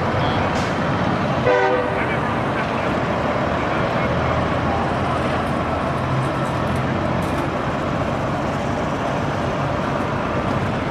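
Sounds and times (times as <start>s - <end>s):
truck diesel engine droning: 0.0s - 10.9s.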